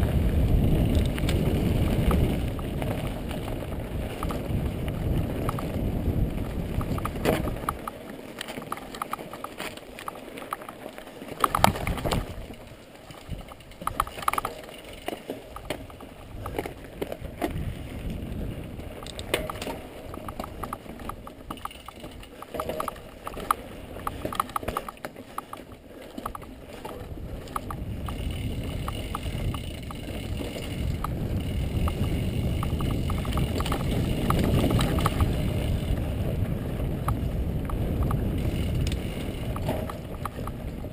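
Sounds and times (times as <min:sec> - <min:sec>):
wind rumble on microphone: 0:00.0 - 0:08.0, 0:11.3 - 0:25.6, 0:26.2 - 0:40.9
bike rattling on rocky trail: 0:00.0 - 0:40.9.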